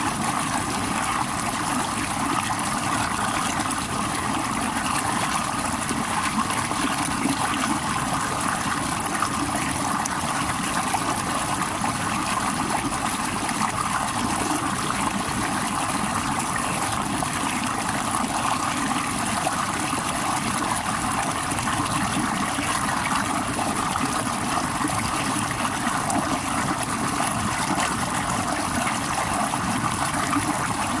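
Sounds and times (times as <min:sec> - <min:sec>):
stream water splashing over boulders: 0:00.0 - 0:31.0.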